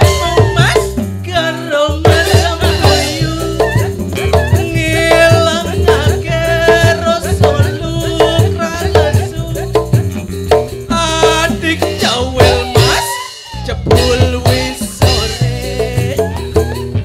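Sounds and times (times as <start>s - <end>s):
drum strokes: 0.0s - 1.2s, 2.0s - 17.0s.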